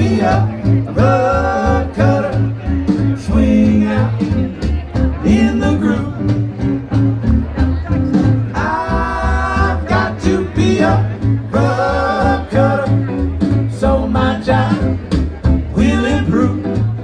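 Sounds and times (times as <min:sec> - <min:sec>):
bass line: 0:00.0 - 0:17.0.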